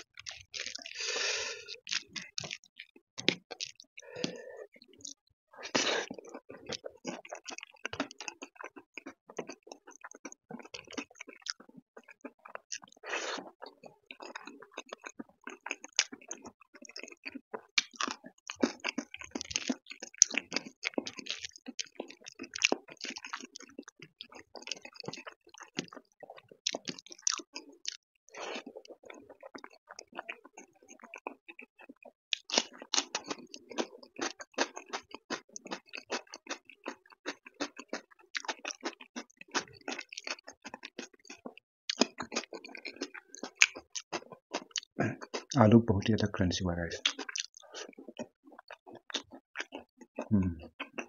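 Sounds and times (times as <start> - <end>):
fingers squelching through food: 0.1 - 4.4, 5.7 - 45.6, 47.0 - 51.0
wet chewing smacks: 0.1 - 45.6, 47.0 - 51.0.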